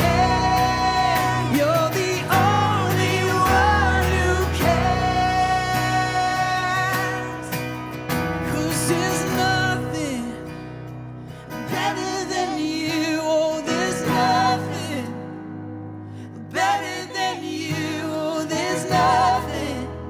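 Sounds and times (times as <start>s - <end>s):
person singing: 0.0s - 7.8s, 8.4s - 10.6s, 11.6s - 15.4s, 16.2s - 20.0s
guitar: 0.0s - 20.0s.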